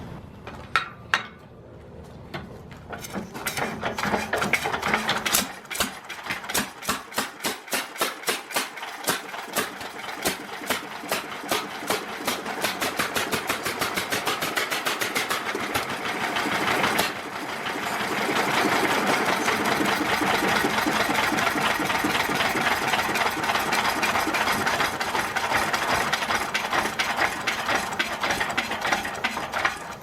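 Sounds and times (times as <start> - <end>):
stationary engine clicking: 3.0 - 30.0.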